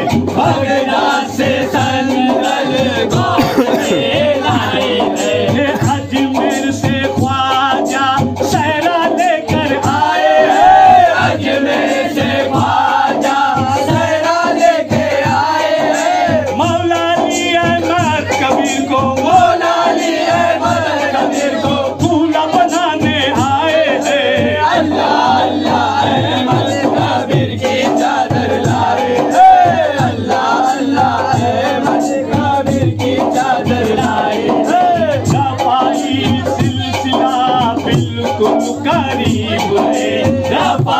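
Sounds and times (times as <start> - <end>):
man singing into a microphone: 0.0 - 40.9
men singing a chant: 0.0 - 40.9.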